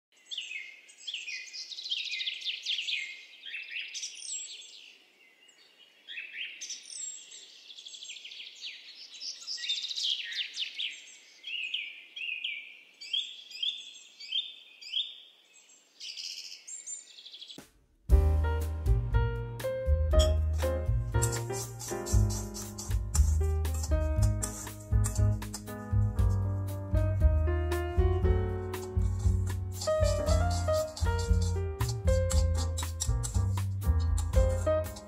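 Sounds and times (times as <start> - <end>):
birds chirping and singing: 0.2 - 17.6, 20.2 - 26.8, 28.5 - 35.0.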